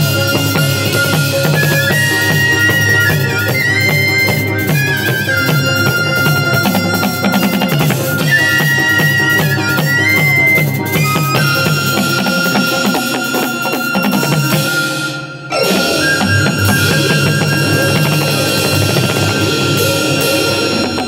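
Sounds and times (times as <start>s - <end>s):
fast steady drum beat: 0.0s - 21.0s
reedy shawm melody: 0.0s - 21.0s.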